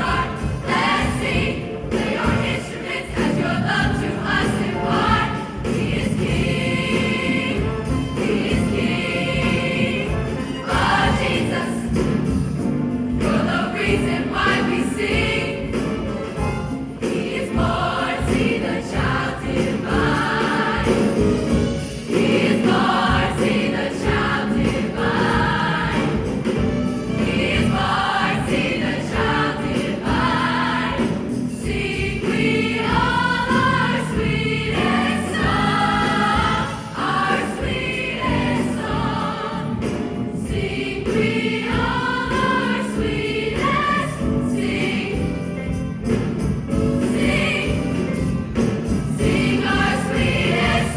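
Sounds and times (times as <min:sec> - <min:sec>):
choir singing with accompaniment: 0:00.0 - 0:50.9.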